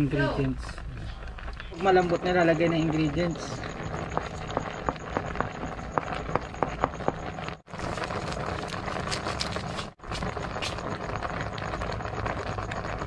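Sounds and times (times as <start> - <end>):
pot boiling and bubbling: 0.0 - 13.0.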